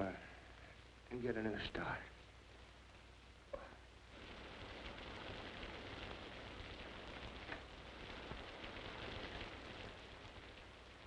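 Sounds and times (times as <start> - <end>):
faint low hum: 0.0 - 11.0
steady hiss: 0.0 - 11.0.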